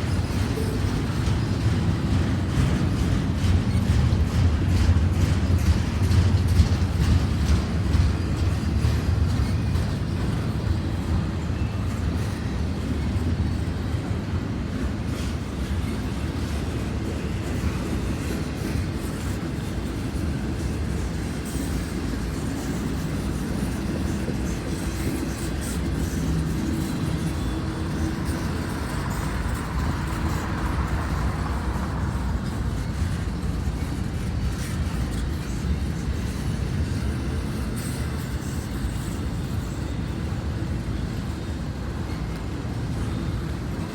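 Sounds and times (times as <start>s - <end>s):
freight train wheels rumbling on rail: 0.0s - 43.9s.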